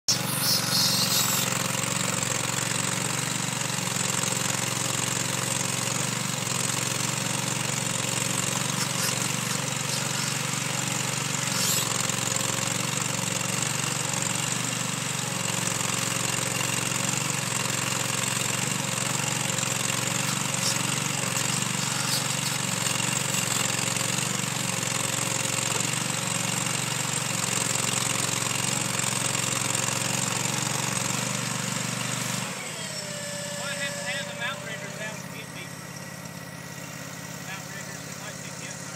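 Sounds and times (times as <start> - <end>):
machine engine running: 0.1 - 38.9.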